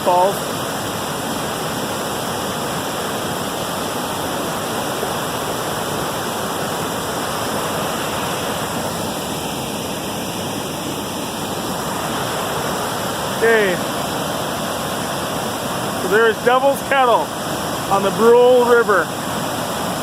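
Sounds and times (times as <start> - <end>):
river rapids rushing into waterfall: 0.0 - 20.0.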